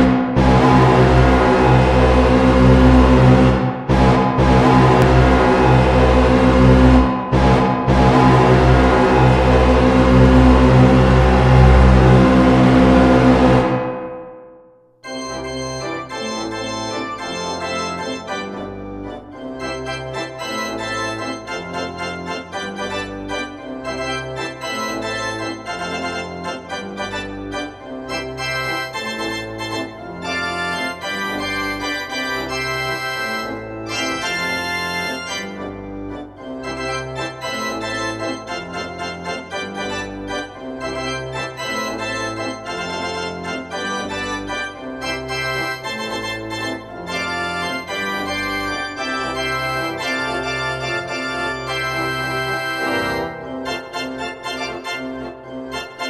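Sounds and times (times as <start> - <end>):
organ music: 0.0 - 14.1, 15.0 - 56.0.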